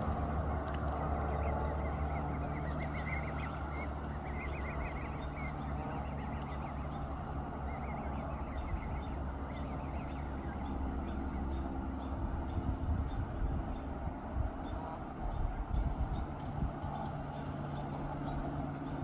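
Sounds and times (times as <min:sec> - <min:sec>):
goslings peeping: 0:00.0 - 0:19.0
steady low hum: 0:00.0 - 0:19.0.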